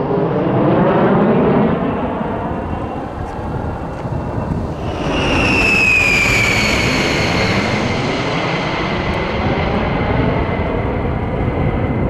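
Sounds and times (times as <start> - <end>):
military jet passing: 0.0 - 12.0
high jet whine sliding down: 0.8 - 12.0.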